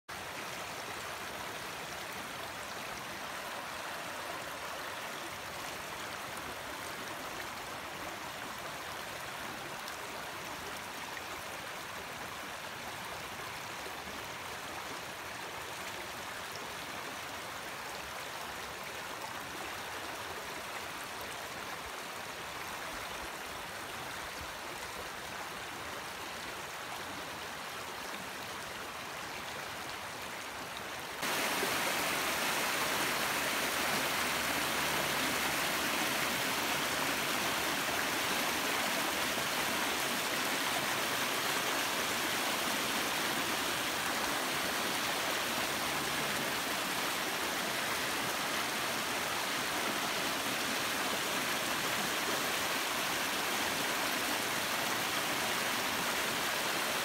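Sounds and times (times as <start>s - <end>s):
river water rushing: 0.1s - 57.0s.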